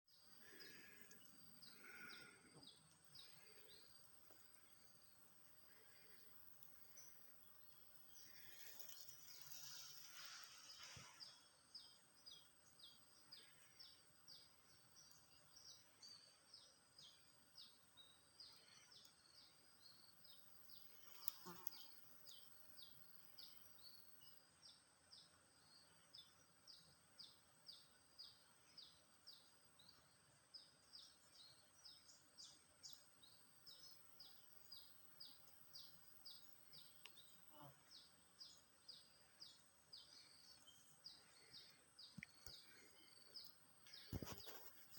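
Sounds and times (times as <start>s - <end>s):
bird chirping: 0.1s - 44.9s.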